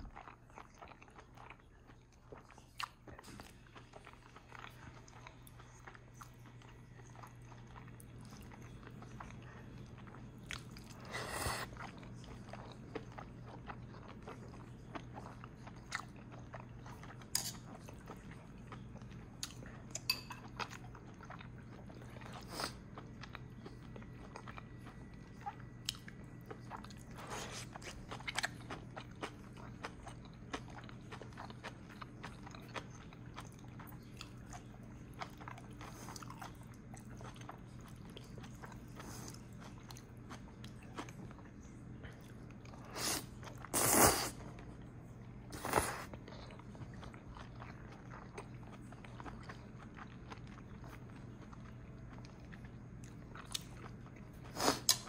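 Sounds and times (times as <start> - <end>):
steady low hum: 0.0 - 55.0
chewing and biting: 0.1 - 55.0.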